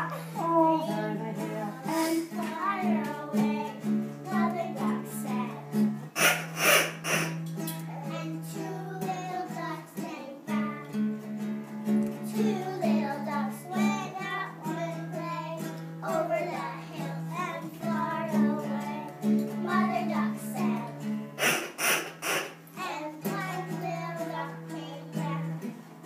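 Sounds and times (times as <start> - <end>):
child singing: 0.0 - 5.9, 7.8 - 11.0, 12.2 - 21.1, 22.8 - 25.8
instrumental music: 0.0 - 26.0.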